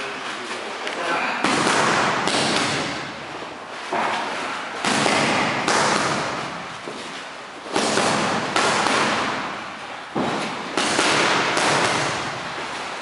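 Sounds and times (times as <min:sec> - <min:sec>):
boxing gloves slapping focus mitts: 0:01.4 - 0:03.2, 0:03.9 - 0:13.0.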